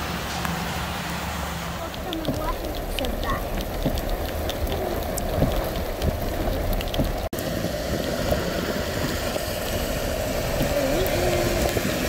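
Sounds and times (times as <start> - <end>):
heavy rain falling: 0.0 - 12.0
traffic on wet road: 0.0 - 12.0.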